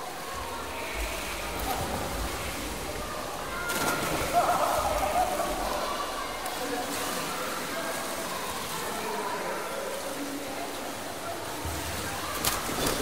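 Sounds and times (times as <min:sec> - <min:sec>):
echoing crowd voices: 0:00.0 - 0:13.0
water sloshing and splashing: 0:00.0 - 0:13.0.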